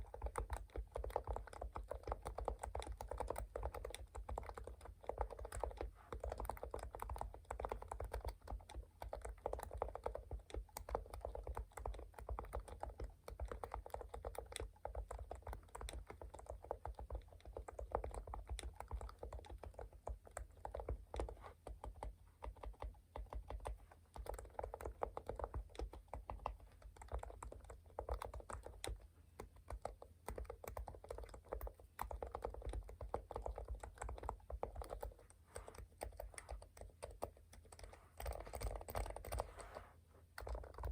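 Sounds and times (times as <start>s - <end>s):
typing on computer keyboard: 0.0s - 40.9s.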